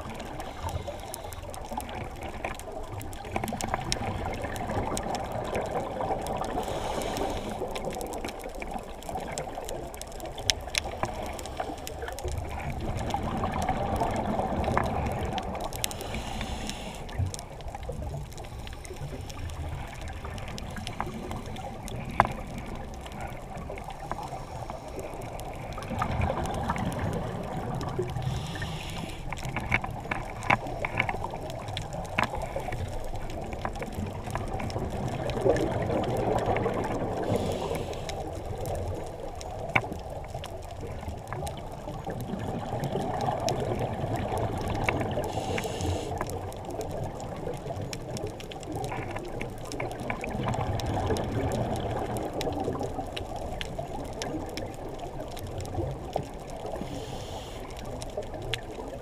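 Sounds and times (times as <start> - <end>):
muffled underwater bubbling: 0.0 - 59.0.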